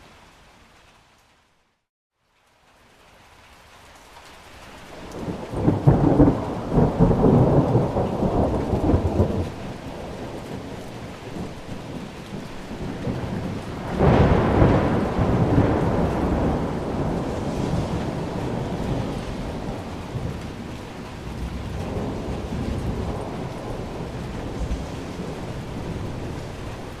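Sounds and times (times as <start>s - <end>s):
rain falling steadily: 0.0s - 27.0s
rolling thunder: 5.1s - 27.0s.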